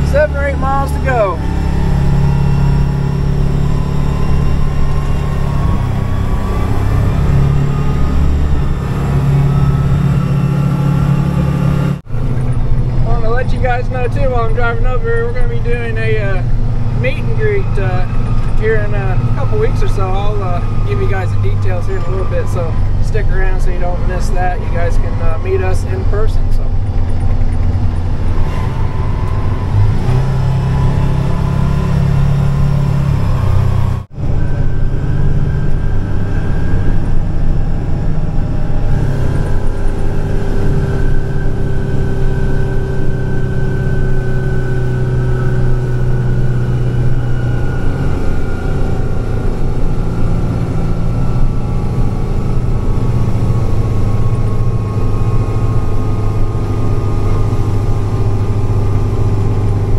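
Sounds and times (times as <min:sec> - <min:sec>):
road and wind noise: 0:00.0 - 0:59.9
truck diesel engine droning: 0:00.0 - 0:59.9.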